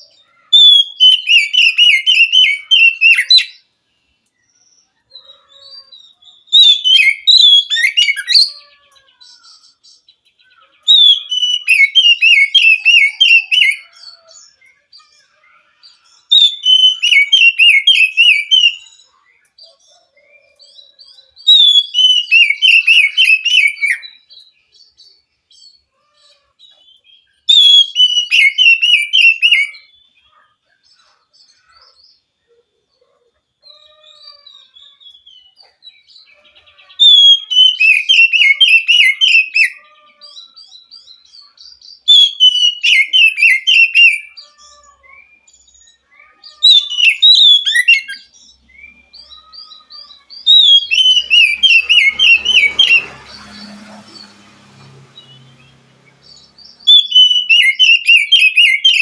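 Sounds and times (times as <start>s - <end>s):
magpie-robin singing: 0.0s - 32.3s, 33.6s - 59.0s.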